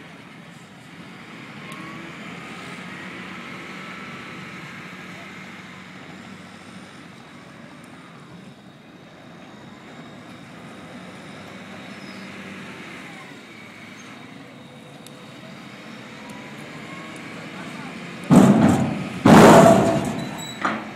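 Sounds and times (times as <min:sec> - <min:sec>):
vehicle engines rumbling: 0:00.0 - 0:20.9.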